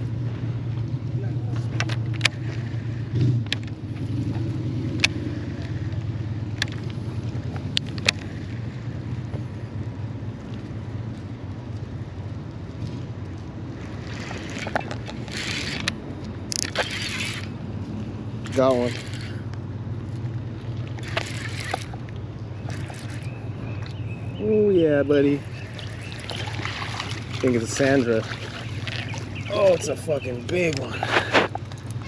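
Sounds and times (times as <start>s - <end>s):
boat motor humming: 0.0s - 32.0s.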